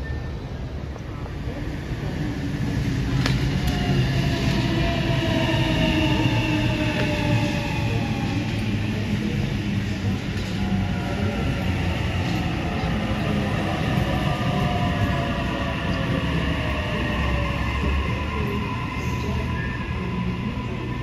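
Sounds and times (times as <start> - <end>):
wheel and rail rumble: 0.0 - 21.0.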